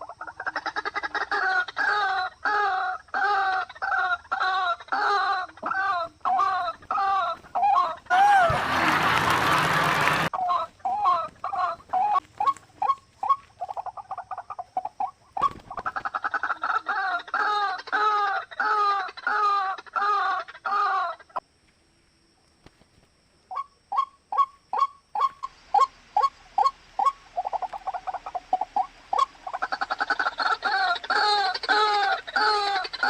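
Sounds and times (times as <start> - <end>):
bird calling: 0.0 - 21.4, 23.5 - 33.0.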